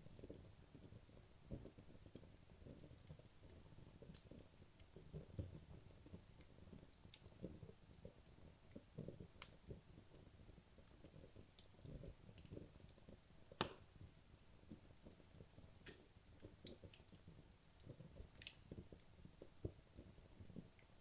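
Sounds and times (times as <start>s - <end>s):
logs crackling in fireplace: 0.0s - 21.0s.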